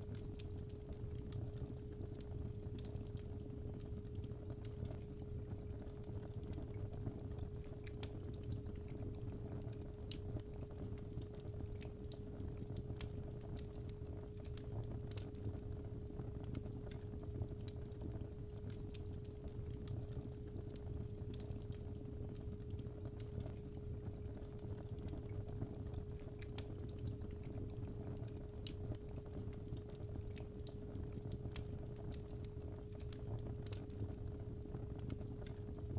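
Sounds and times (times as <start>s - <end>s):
wood crackling and popping: 0.1s - 35.9s.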